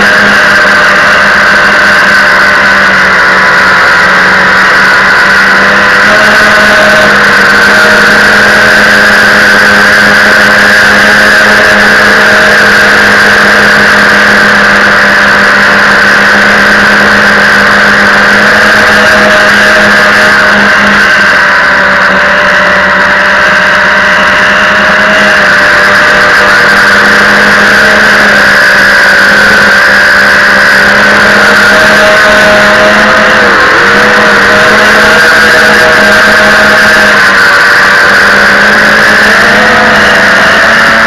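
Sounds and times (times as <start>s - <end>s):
drone motors and propellers whirring: 0.0s - 41.0s.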